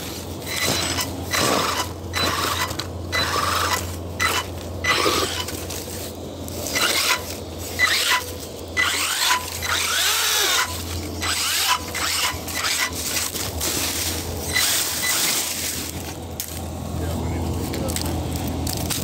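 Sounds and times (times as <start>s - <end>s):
electric motor whining: 0.0s - 19.0s
tyres scrabbling over rock and leaves: 3.7s - 19.0s.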